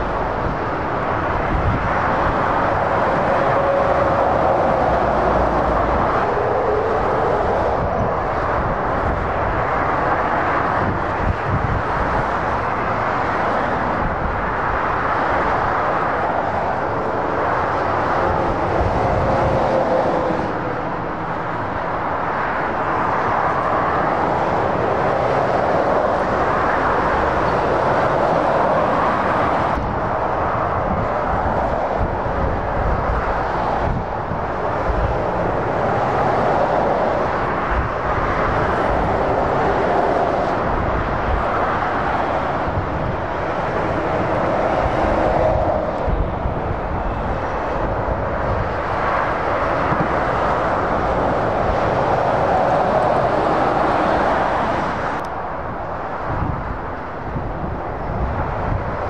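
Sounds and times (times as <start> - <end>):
heavy motorway traffic passing: 0.0 - 59.0.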